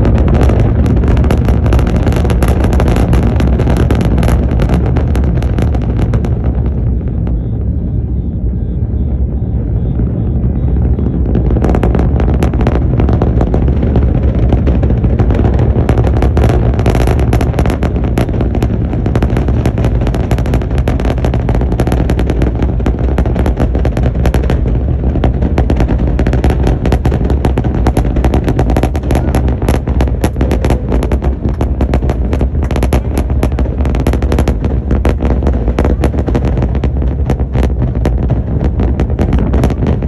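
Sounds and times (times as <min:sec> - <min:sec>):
rocket engine dense crackling: 0:00.0 - 0:40.0
rocket engines deep rumble: 0:00.0 - 0:40.0.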